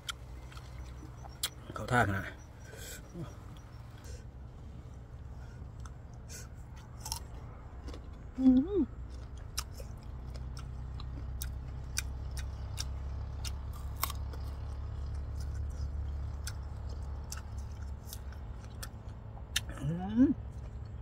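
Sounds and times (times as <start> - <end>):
crunching and chewing lemongrass: 0.0 - 21.0
steady low rumble: 0.0 - 21.0.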